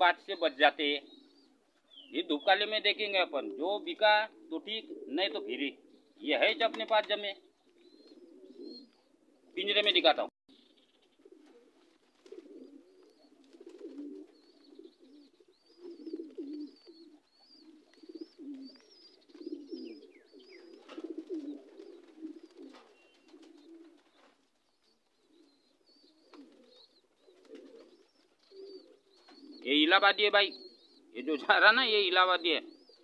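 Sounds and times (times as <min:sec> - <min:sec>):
pigeons cooing: 0:00.0 - 0:10.0, 0:11.0 - 0:33.0.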